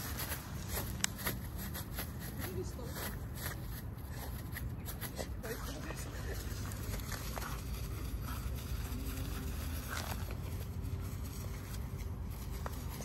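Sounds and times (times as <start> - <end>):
leaves rustling and crackling: 0.0 - 13.0
steady low rumble: 0.0 - 13.0.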